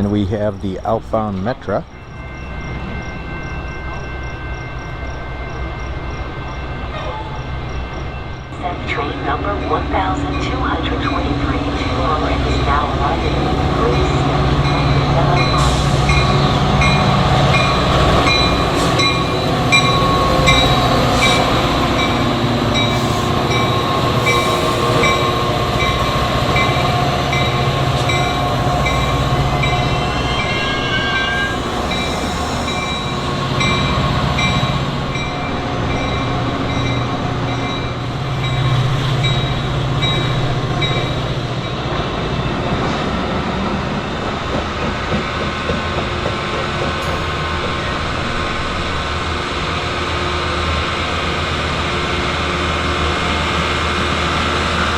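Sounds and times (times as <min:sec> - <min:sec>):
crossing warning bell dinging: 0:00.0 - 0:48.8
diesel train rumbling: 0:00.0 - 0:54.9.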